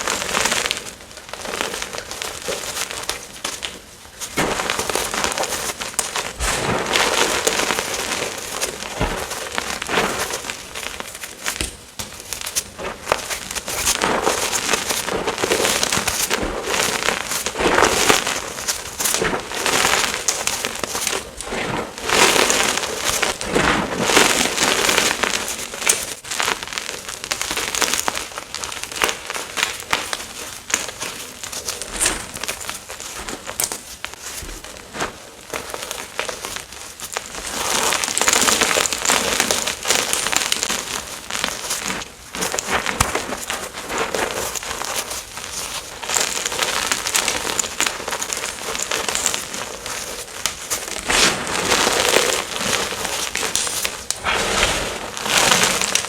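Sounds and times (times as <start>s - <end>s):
chalk being crushed: 0.0s - 56.0s.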